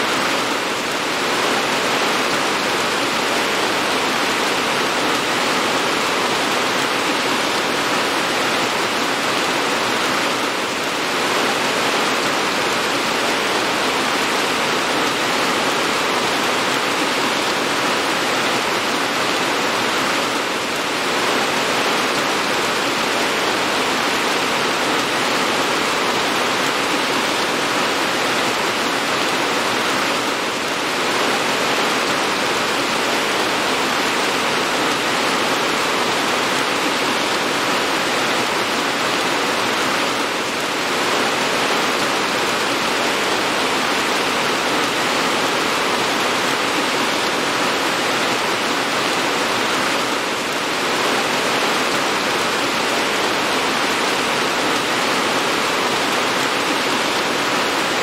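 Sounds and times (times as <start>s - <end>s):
dense rain falling: 0.0s - 58.0s.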